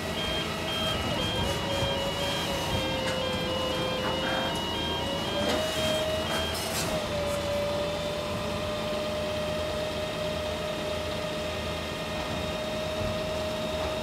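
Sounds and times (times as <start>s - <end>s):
constant whining tone: 0.0s - 11.5s
truck machinery humming: 0.0s - 14.0s.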